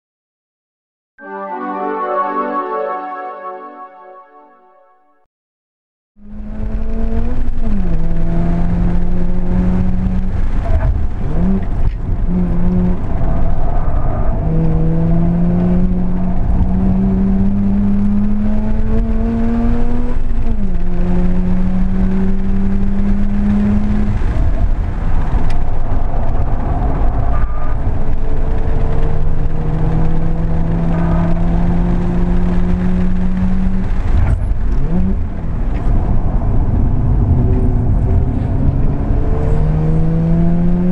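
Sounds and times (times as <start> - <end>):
road and tyre rumble: 6.2 - 40.9.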